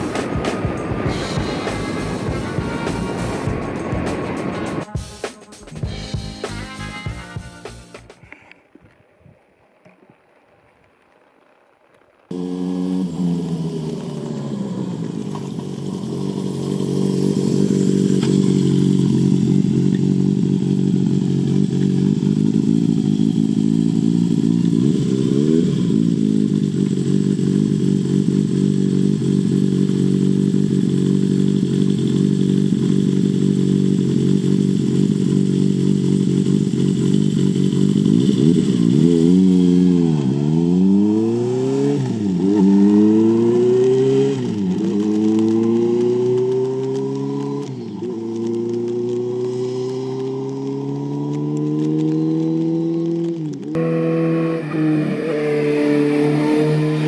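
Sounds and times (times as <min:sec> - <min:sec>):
motorcycle engine revving: 0:00.0 - 0:08.2, 0:12.3 - 0:57.0.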